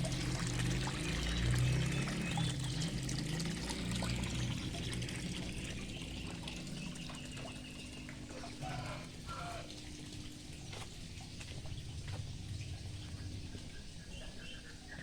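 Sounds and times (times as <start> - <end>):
water pouring and trickling: 0.0 - 14.0.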